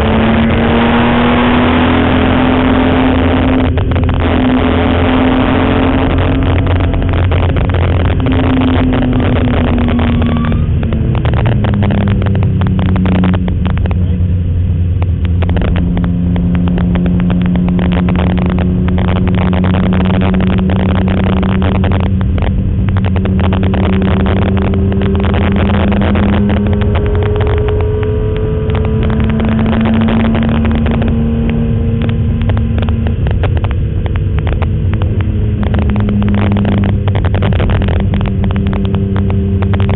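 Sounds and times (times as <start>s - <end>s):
crackling distortion: 0.0s - 39.9s
race car engine from cabin: 0.0s - 39.9s.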